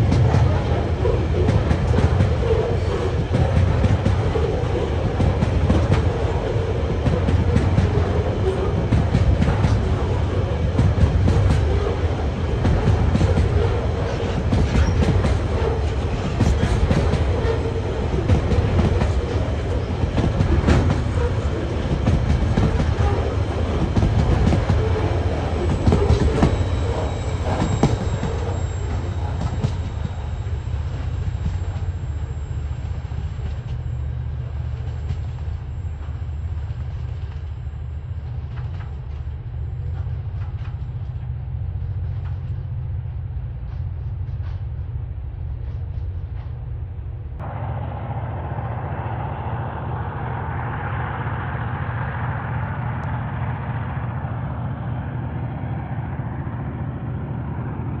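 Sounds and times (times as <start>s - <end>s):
train wheels clicking: 0.0s - 47.0s
train low rumble: 0.0s - 58.0s.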